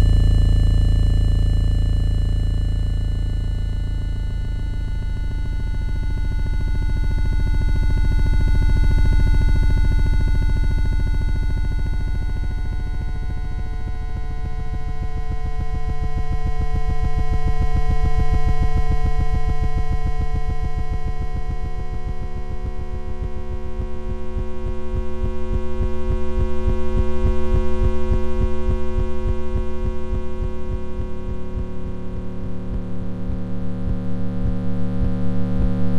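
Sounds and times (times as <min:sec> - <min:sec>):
pulsing synthesized drone: 0:00.0 - 0:35.9.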